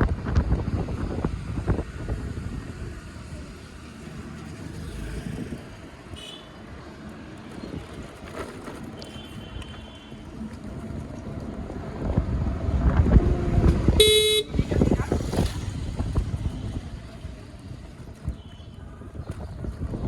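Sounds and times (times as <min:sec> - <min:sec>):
wind buffeting microphone: 0:00.0 - 0:06.8, 0:10.3 - 0:20.0
scooter road noise: 0:00.0 - 0:20.0.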